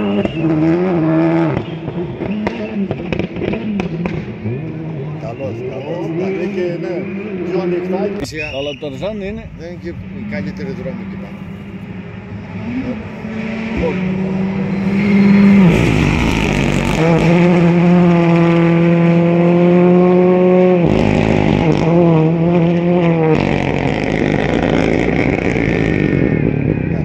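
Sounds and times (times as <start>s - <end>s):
rally car engine revving: 0.0s - 8.5s, 9.1s - 27.0s.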